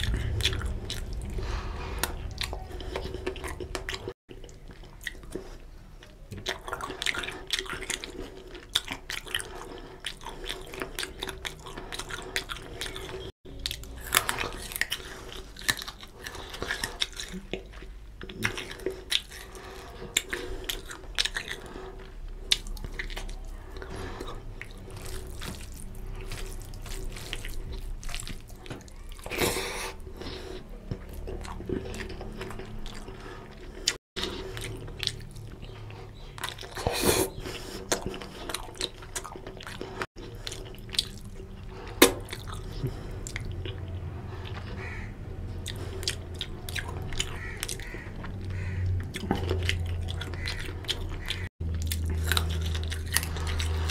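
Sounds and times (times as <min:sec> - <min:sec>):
wet chewing and mouth clicks: 0:00.0 - 0:53.9.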